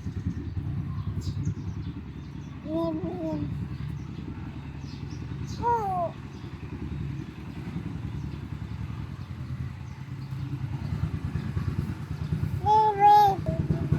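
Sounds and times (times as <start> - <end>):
engine rumble with fast flutter: 0.0 - 13.9.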